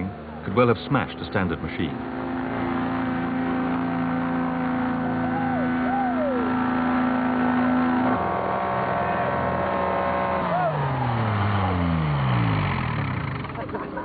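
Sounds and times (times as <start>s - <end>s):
microlight engine droning: 0.0s - 14.0s
rising and falling tones: 2.0s - 13.5s.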